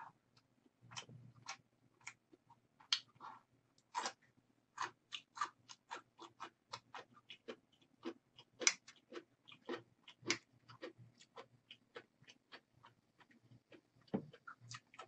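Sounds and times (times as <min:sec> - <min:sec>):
wet chewing of noodles: 0:00.9 - 0:15.0.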